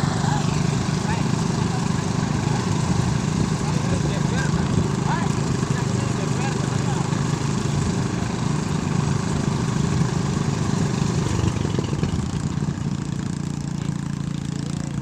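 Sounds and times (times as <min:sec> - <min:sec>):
threshing machine running: 0:00.0 - 0:15.0.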